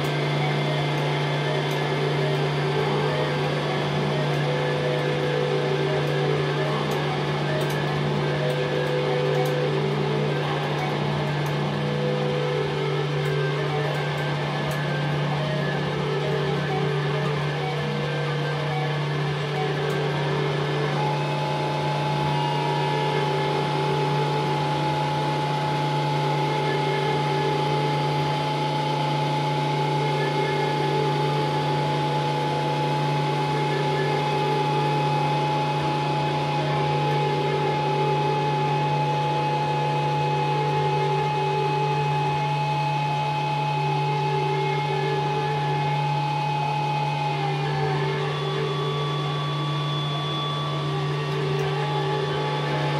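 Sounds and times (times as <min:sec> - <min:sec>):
constant low hum: 0:00.0 - 0:52.9
drone music sustained tones: 0:00.0 - 0:52.9
long held high tone: 0:00.0 - 0:52.9.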